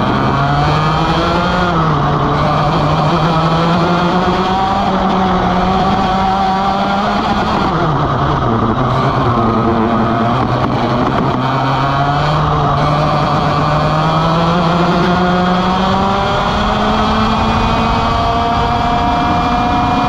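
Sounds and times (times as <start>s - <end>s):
kart engine running hard: 0.0s - 20.0s.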